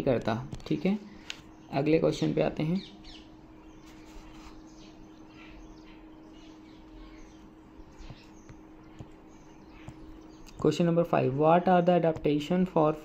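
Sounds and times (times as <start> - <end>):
low electrical hum: 0.0 - 13.0
small birds chirping: 0.0 - 13.0.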